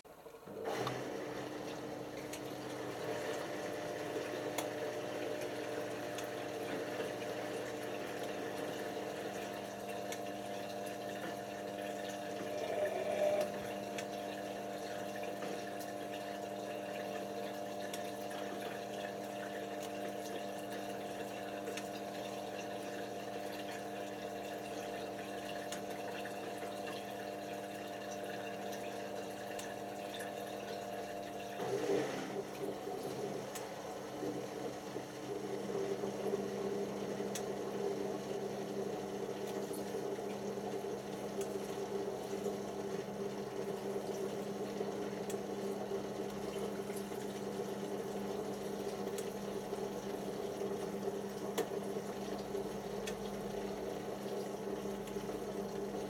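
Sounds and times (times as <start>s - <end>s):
washing machine drain pump humming: 0.0s - 56.0s
water running through pump: 0.0s - 56.0s.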